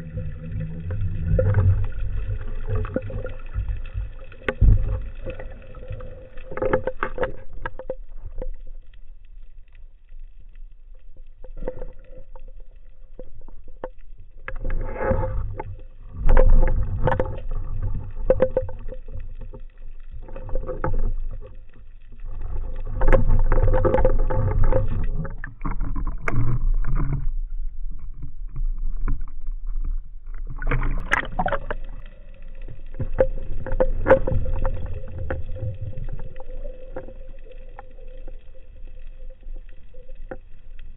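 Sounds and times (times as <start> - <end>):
water sloshing and bubbling: 0.0 - 40.9.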